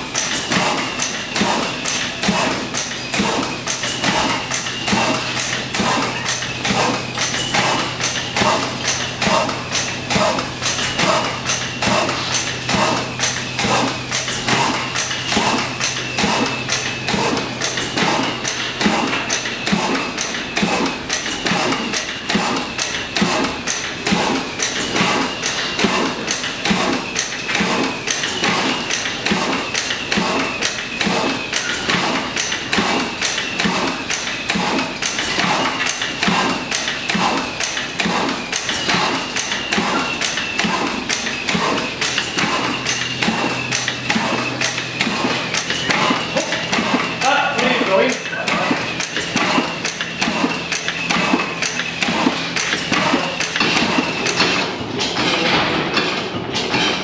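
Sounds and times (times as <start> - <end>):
stationary engines knocking: 0.0 - 57.0.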